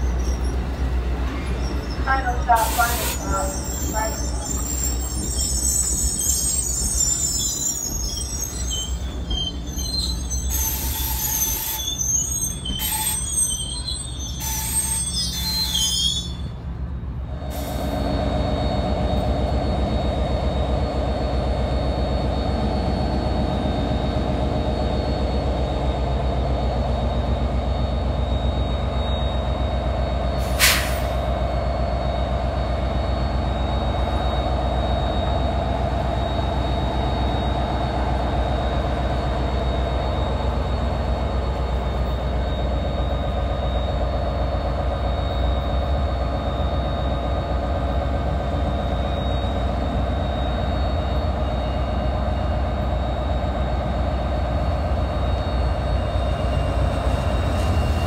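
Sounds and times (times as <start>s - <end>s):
train wheel squeal: 0.0s - 16.7s, 17.3s - 58.0s
diesel locomotive engine: 0.0s - 58.0s.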